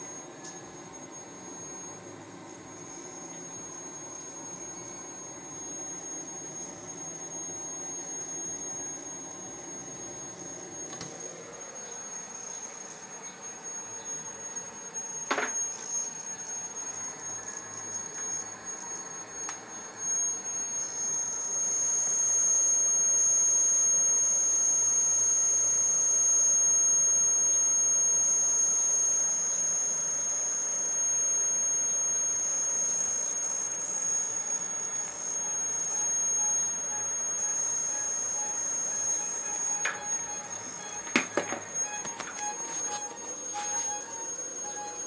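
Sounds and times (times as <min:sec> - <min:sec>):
high-pitched electronic whine: 0:00.0 - 0:45.0.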